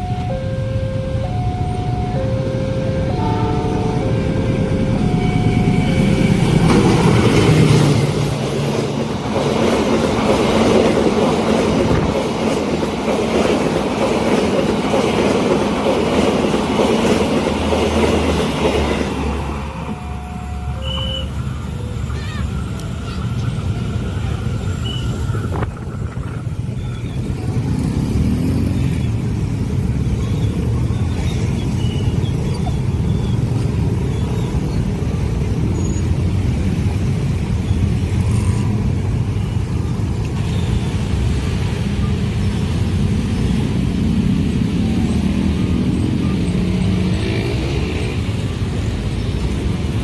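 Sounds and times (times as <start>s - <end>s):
train rumbling over crossing: 0.0s - 50.0s.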